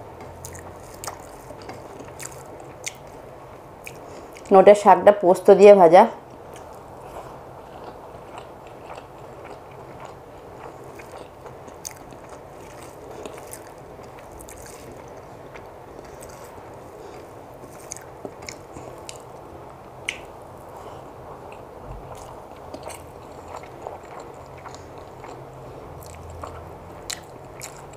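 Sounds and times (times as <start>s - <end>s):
chewing and mouth sounds: 0.2s - 4.5s, 6.3s - 20.8s, 21.5s - 27.9s.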